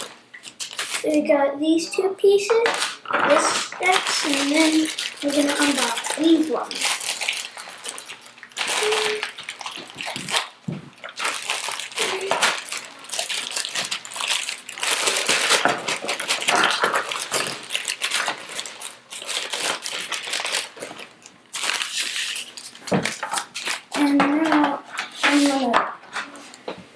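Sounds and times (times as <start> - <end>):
plastic bags crinkling: 0.0 - 1.1, 2.5 - 25.8
plastic pieces shifting in bag: 2.6 - 24.6.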